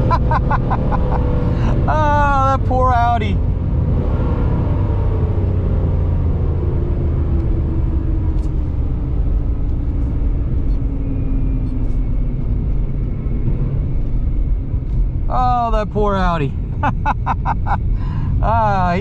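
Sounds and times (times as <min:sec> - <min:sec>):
car engine slowing down: 0:00.0 - 0:19.0.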